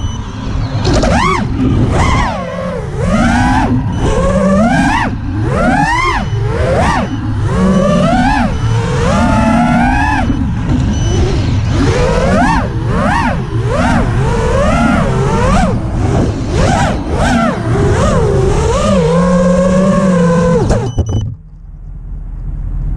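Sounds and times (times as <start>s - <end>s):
drone motors and propellers whining: 0.0s - 22.9s.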